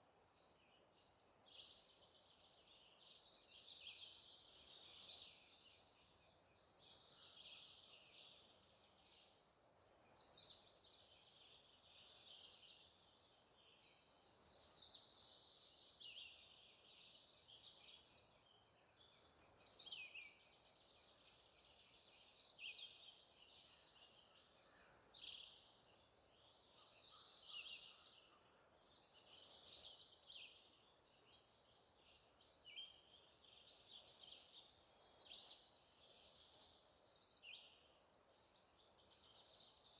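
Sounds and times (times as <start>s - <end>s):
faint outdoor background: 0.0s - 39.9s
songbirds singing: 0.1s - 39.9s.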